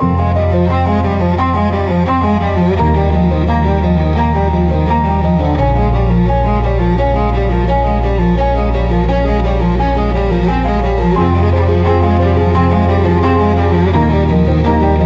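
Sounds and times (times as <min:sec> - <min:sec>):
cello holding deep notes: 0:00.0 - 0:15.0.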